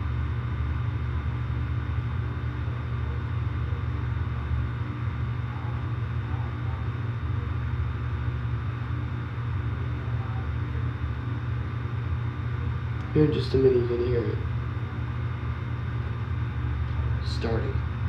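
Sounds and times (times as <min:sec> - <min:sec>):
air conditioner units humming: 0:00.0 - 0:18.0.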